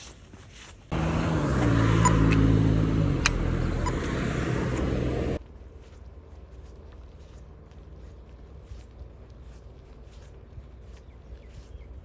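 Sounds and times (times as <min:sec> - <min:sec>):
road noise: 0:00.6 - 0:12.0
vehicle engine humming: 0:00.9 - 0:12.0.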